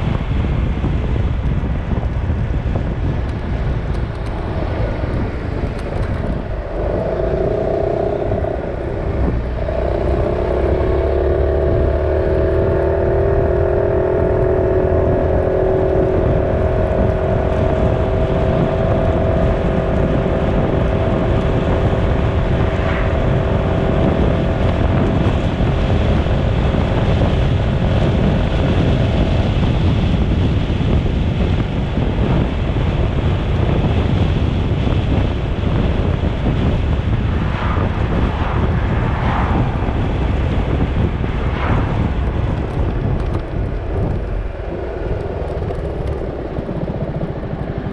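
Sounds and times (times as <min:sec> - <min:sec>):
motorcycle engine accelerating: 0:00.0 - 0:47.9
wind noise on microphone: 0:00.0 - 0:47.9.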